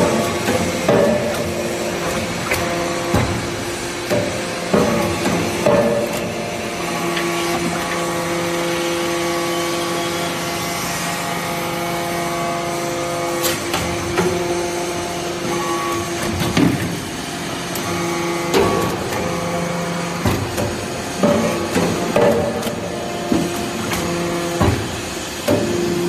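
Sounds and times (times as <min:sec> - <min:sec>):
hydraulic press humming: 0:00.0 - 0:26.0.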